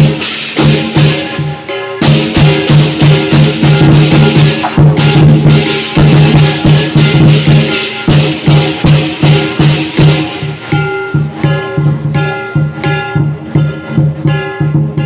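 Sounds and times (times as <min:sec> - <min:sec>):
clashing cymbals: 0:00.0 - 0:15.0
large drum beating fast rhythm: 0:00.0 - 0:15.0.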